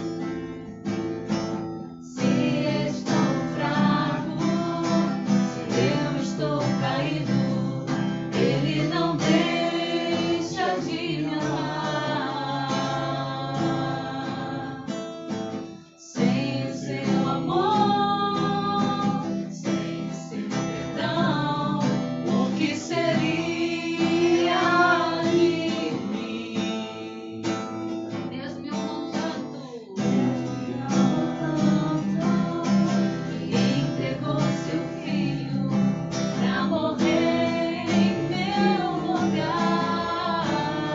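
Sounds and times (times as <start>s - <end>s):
strummed acoustic guitar: 0.0s - 40.9s
person singing: 2.0s - 15.0s, 15.8s - 40.9s.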